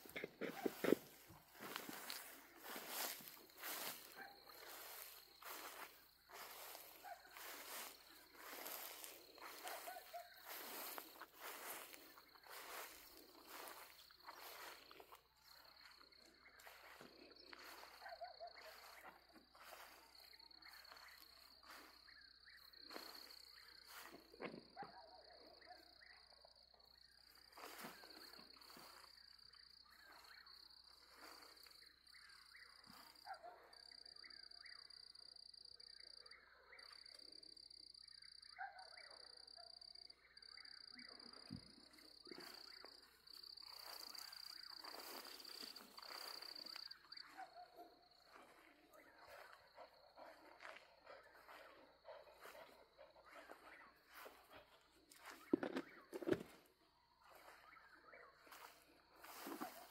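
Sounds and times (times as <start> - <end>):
insects trilling: 0.0 - 24.4, 25.6 - 59.9
frogs croaking: 0.0 - 24.9, 25.5 - 59.9.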